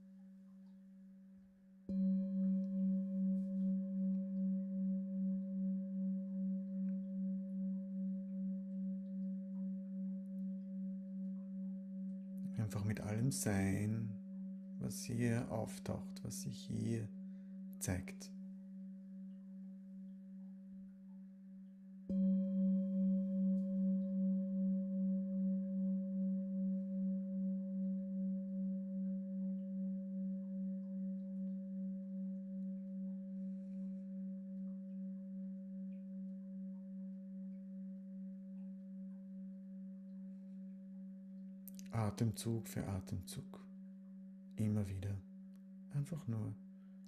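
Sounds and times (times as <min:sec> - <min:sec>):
singing bowl ringing: 0:01.8 - 0:16.2, 0:16.8 - 0:41.8.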